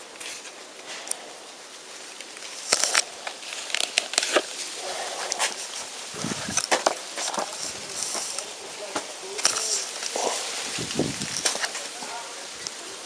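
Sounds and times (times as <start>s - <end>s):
leather sheath rustling: 0.1s - 12.0s.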